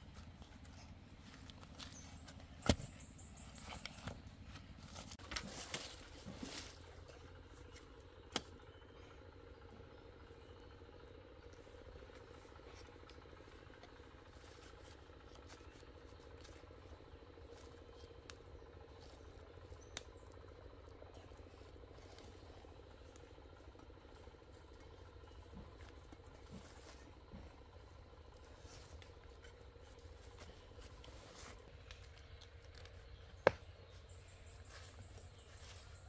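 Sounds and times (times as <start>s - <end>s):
faint low hum: 0.0s - 36.0s.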